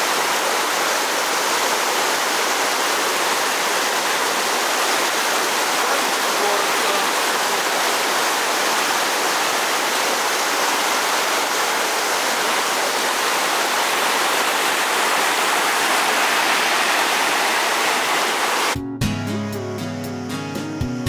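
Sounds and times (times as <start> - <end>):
mountain stream rushing: 0.0 - 18.8.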